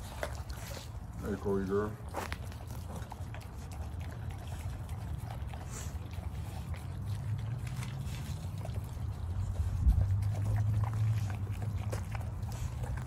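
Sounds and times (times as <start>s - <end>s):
dog chewing wetly: 0.0s - 13.0s.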